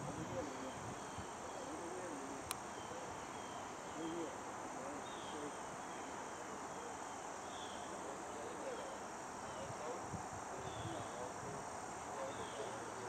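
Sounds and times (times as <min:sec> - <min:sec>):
faint distant voices: 0:00.0 - 0:13.0
insects chirping: 0:00.0 - 0:13.0
steady background hiss: 0:00.0 - 0:13.0.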